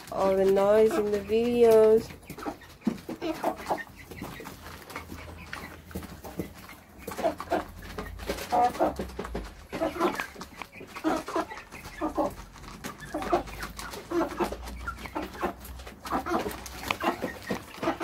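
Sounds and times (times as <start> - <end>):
beaks pecking plastic pan: 0.0 - 18.0
chickens clucking: 0.0 - 18.0.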